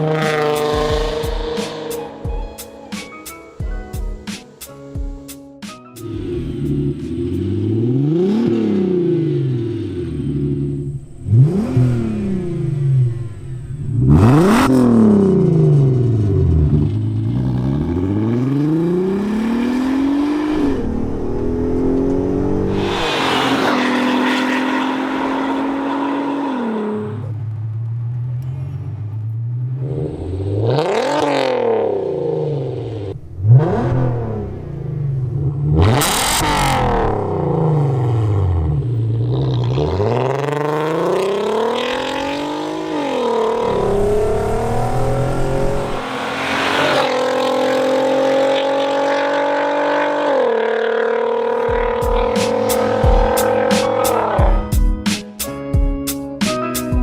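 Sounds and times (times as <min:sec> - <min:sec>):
car engine revving: 0:00.0 - 0:03.6, 0:06.0 - 0:55.4.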